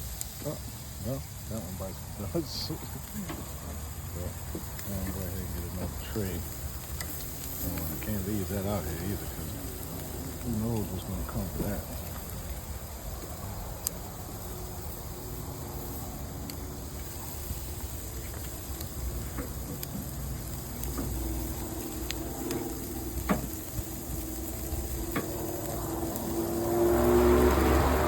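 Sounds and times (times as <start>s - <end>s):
meat sizzling on a grill: 0.0s - 28.0s.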